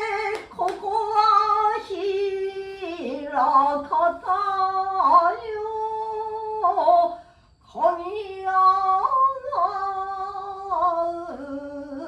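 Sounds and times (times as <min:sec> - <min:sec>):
woman singing long wavering notes: 0:00.0 - 0:12.0.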